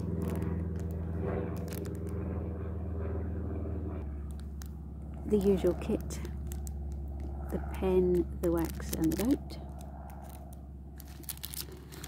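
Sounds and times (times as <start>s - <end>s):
packaging clicking and rustling: 0.0s - 2.2s, 4.3s - 12.0s
low engine-like hum: 0.0s - 12.0s.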